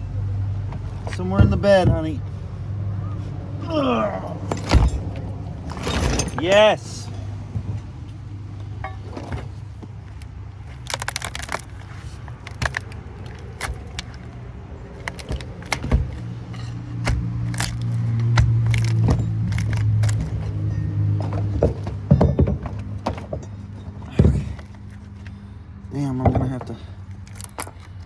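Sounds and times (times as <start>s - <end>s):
metal parts clinking and scraping: 4.1s - 25.4s, 26.0s - 28.0s.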